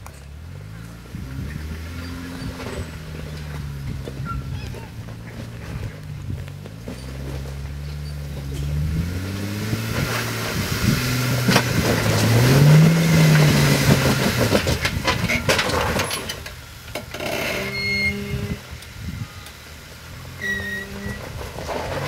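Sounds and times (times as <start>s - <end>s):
rocks crunching under tyres: 0.0s - 22.0s
vehicle engine climbing: 0.0s - 22.0s.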